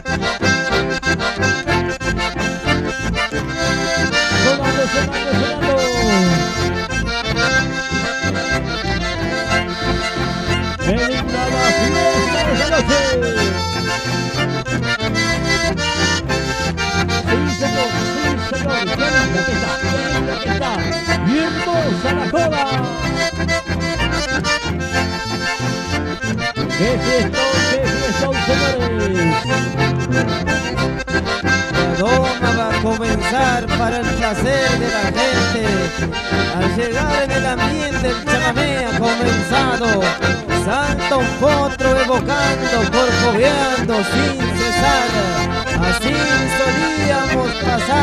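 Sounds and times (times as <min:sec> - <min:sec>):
accordion and bandoneon melody: 0:00.0 - 0:48.0
strummed guitars: 0:00.0 - 0:48.0.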